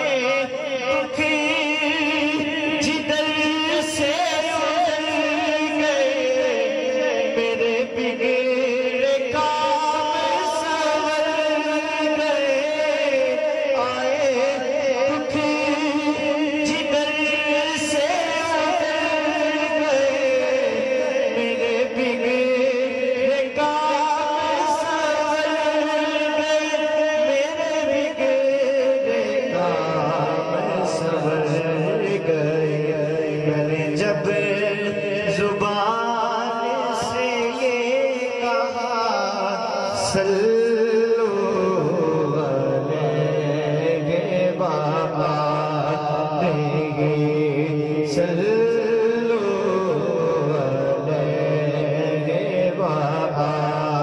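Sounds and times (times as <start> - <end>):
man singing into a microphone: 0.0 - 54.0.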